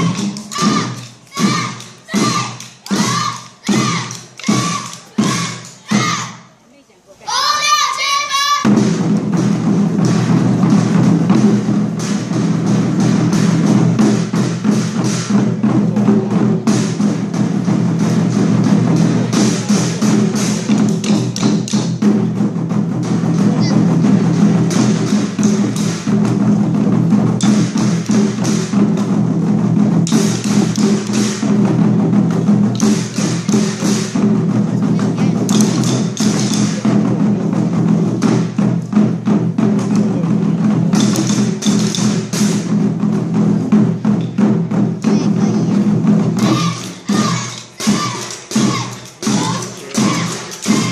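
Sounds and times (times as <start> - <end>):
drum ensemble playing: 0.0 - 6.7, 7.3 - 50.9.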